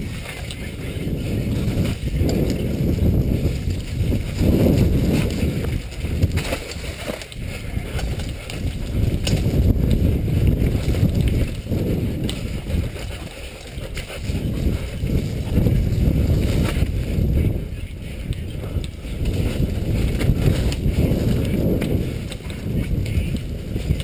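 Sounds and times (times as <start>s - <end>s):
bike rattling over bumps: 0.0s - 24.0s
wind buffeting microphone: 0.0s - 24.0s.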